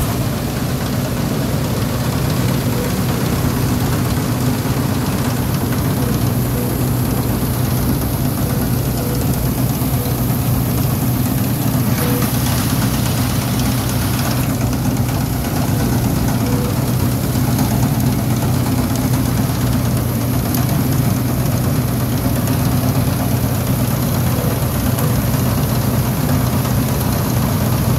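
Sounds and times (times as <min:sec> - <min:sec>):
combine harvester engine droning: 0:00.0 - 0:27.9.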